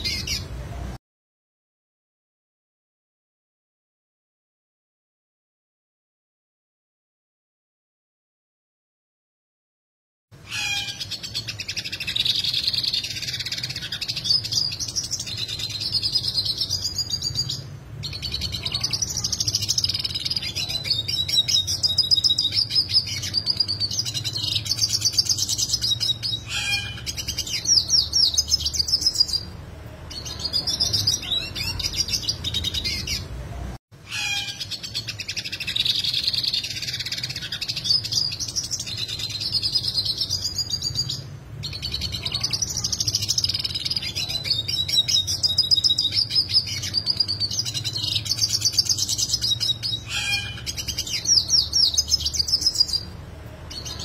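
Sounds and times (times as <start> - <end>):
bird twittering song: 0.0 - 0.5, 10.5 - 33.3, 34.1 - 54.0.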